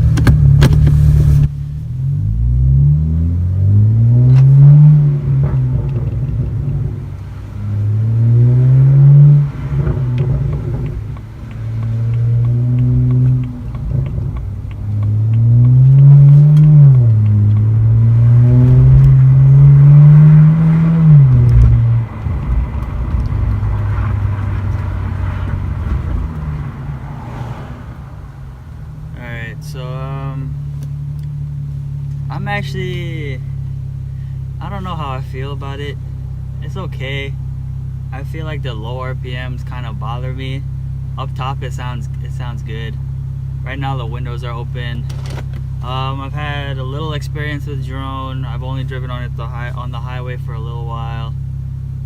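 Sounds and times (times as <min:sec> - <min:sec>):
car engine accelerating hard: 0:00.0 - 0:52.0.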